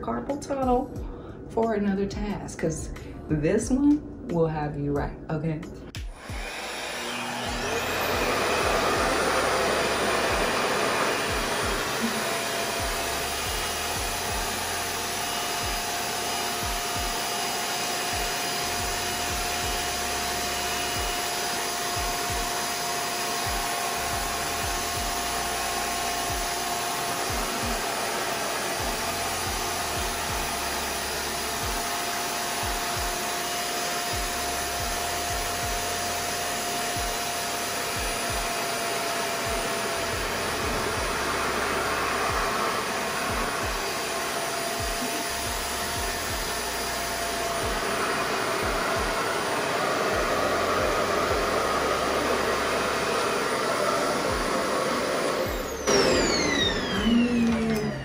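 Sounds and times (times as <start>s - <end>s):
hair dryer running: 5.9s - 58.0s.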